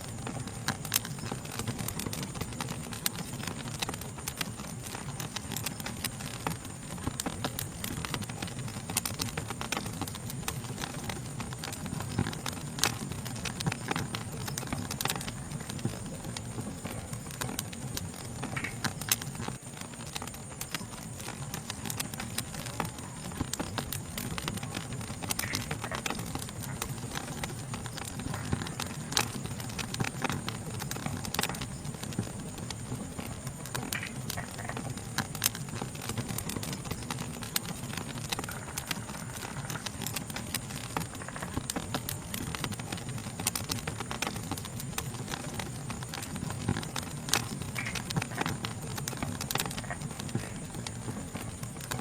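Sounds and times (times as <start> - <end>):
insect chorus: 0.0 - 52.0
wood fire crackling: 0.0 - 52.0.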